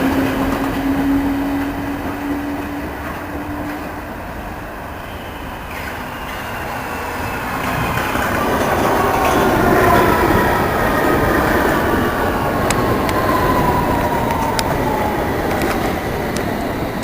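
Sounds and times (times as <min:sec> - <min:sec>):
passenger train arriving: 0:00.0 - 0:17.0
rail rumble: 0:00.0 - 0:17.0.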